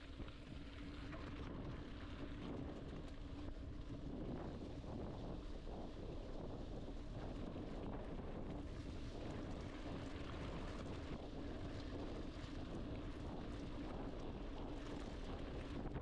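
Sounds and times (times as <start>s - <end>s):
wind noise on microphone: 0.1s - 16.0s.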